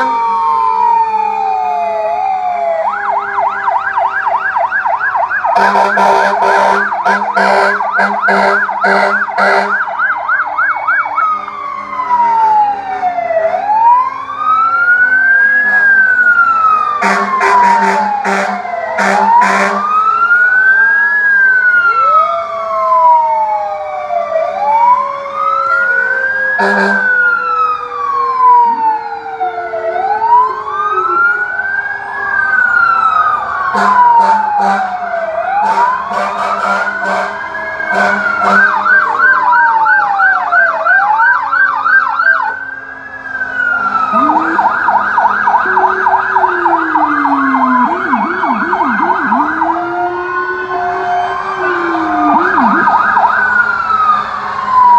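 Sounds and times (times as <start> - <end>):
lower siren tone falling: 0.0 - 54.9
wailing siren: 0.0 - 54.9.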